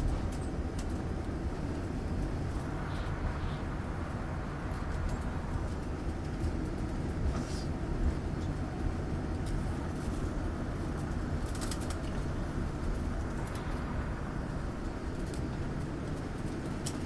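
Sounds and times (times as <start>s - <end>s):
airliner rumble inside cabin: 0.0s - 17.0s.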